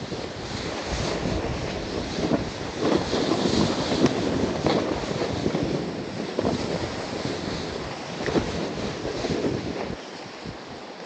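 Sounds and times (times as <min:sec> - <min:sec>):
snowboard sliding through snow: 0:00.0 - 0:11.0.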